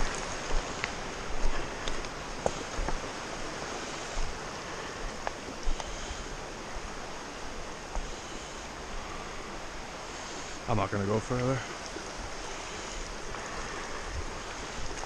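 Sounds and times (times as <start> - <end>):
stream rushing over stones: 0.0 - 15.0.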